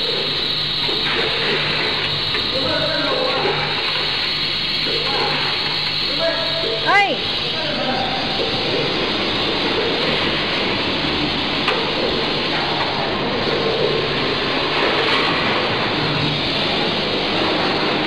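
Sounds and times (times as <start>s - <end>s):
packaging machinery running: 0.0s - 18.0s.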